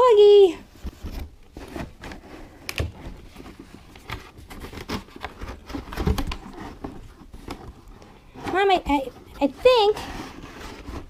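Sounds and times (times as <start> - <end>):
packaging rustling and crinkling: 0.2 - 11.0.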